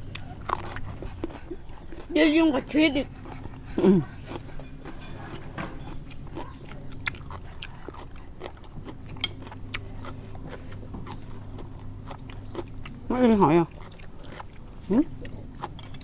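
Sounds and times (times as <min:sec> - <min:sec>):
chewing crisp food: 0:00.0 - 0:16.0.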